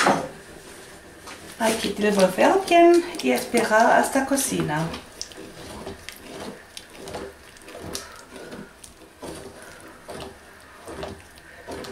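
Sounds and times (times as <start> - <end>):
wooden spoon scraping pot: 0.0 - 11.9.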